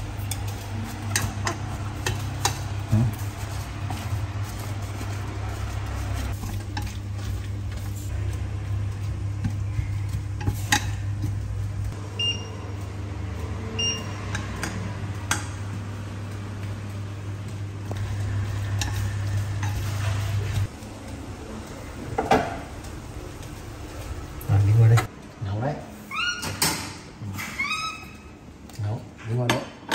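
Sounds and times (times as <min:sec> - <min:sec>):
induction hob humming: 0:00.0 - 0:25.4.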